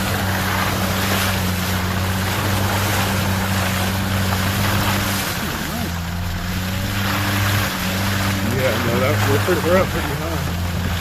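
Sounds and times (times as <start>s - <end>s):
truck engine running: 0.0s - 11.0s
tyres splashing through water: 0.0s - 11.0s.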